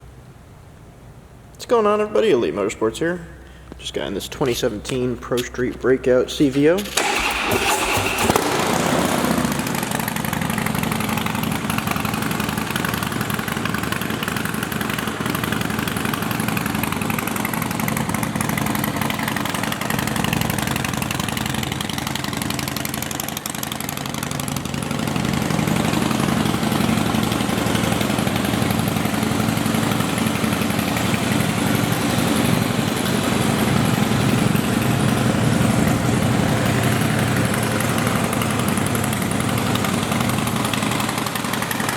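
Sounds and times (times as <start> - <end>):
motorcycle engine idling: 6.9 - 41.9.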